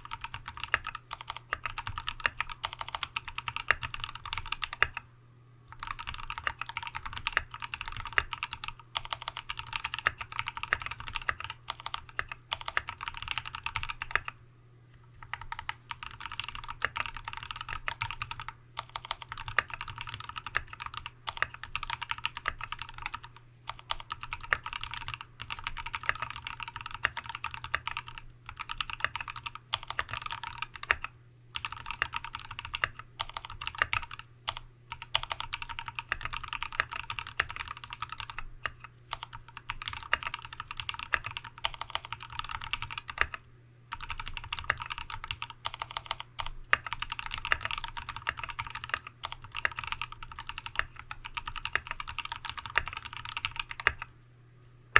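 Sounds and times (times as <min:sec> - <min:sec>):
fast mechanical keyboard typing: 0:00.0 - 0:05.0, 0:05.7 - 0:14.4, 0:15.2 - 0:54.1.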